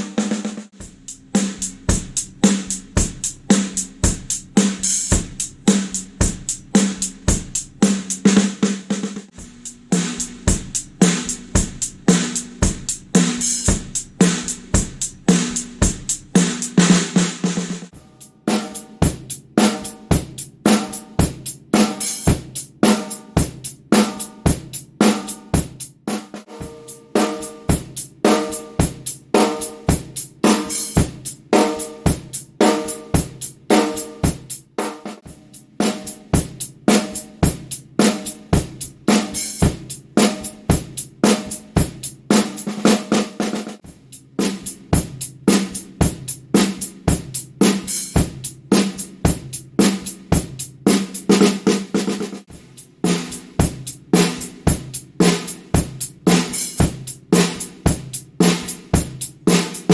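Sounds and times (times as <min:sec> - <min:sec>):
drum kit groove: 0:00.0 - 0:59.9
snare drum backbeat: 0:05.2 - 0:59.9.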